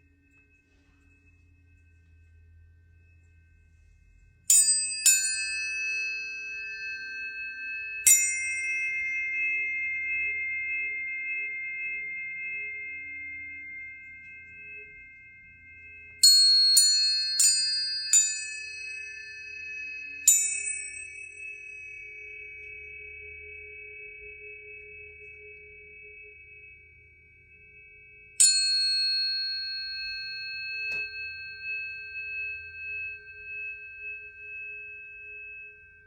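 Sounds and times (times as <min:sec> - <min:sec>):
tuning forks ringing: 0:00.0 - 0:36.0.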